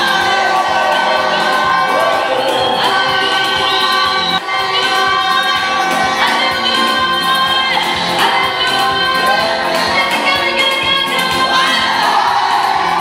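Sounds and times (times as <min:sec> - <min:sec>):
congregation singing: 0:00.0 - 0:13.0
loud amplified music: 0:00.0 - 0:13.0
woman singing into a microphone: 0:00.0 - 0:13.0.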